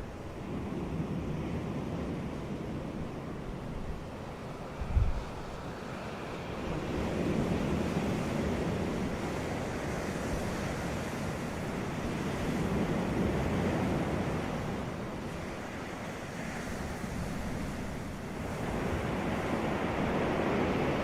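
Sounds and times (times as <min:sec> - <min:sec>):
ocean waves breaking on beach: 0:00.0 - 0:21.0.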